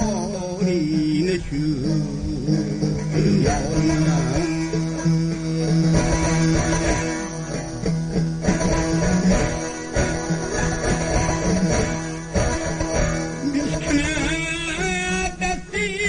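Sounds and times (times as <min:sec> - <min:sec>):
plucked string melody: 0:00.0 - 0:16.0.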